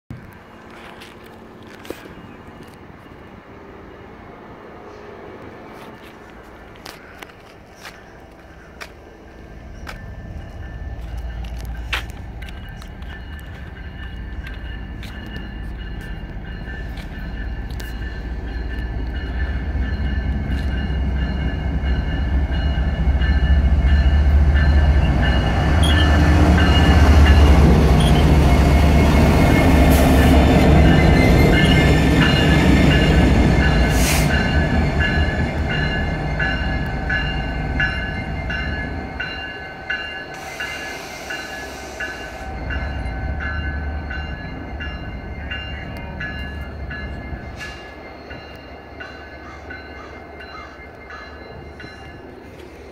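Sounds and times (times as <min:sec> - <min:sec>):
diesel locomotive engine rumble: 0:00.1 - 0:52.9.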